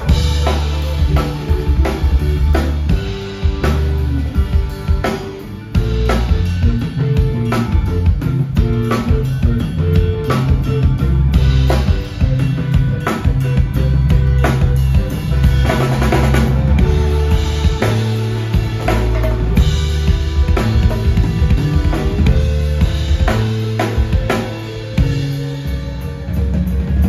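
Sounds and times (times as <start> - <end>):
drum kit steady beat: 0.0 - 27.0
live rock band playing: 0.0 - 27.0.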